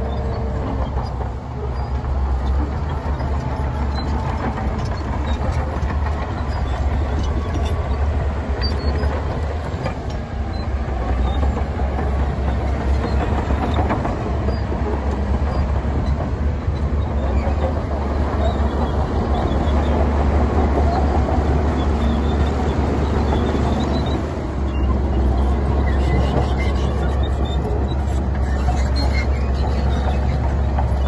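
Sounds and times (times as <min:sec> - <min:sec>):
diesel machinery rumbling: 0:00.0 - 0:31.0.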